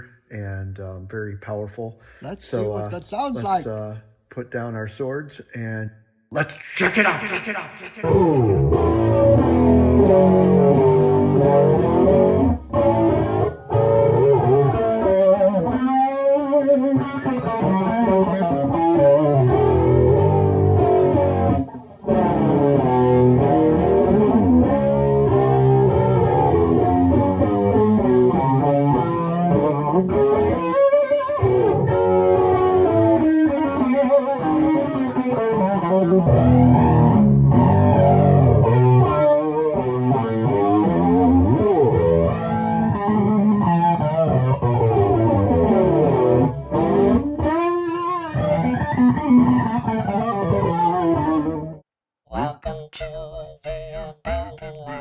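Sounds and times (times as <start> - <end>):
electric guitar with flanger: 7.6 - 51.8.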